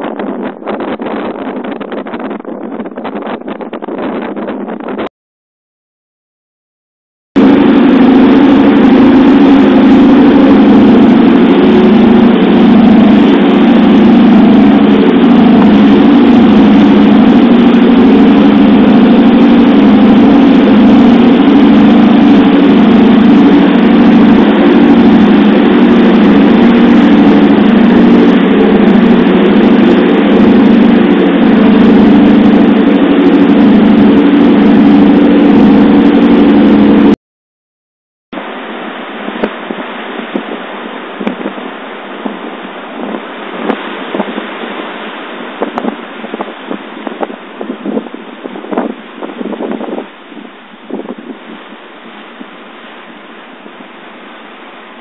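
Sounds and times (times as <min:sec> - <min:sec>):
boat engine running: 0:00.0 - 0:05.1, 0:07.4 - 0:37.2, 0:38.4 - 0:55.0
wind and water rushing: 0:00.0 - 0:05.1, 0:07.4 - 0:37.2, 0:38.4 - 0:55.0.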